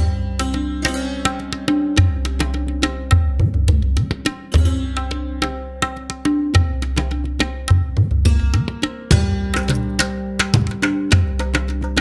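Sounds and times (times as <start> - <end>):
instrumental music with drums: 0.0 - 12.0.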